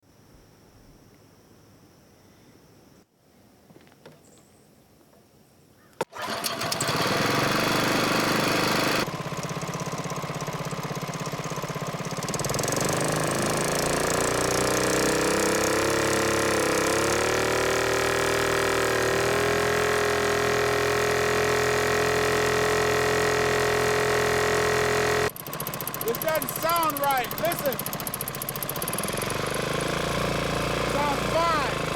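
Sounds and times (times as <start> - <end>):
motor starting click: 6.0 - 31.9
boat motor running: 6.1 - 31.9.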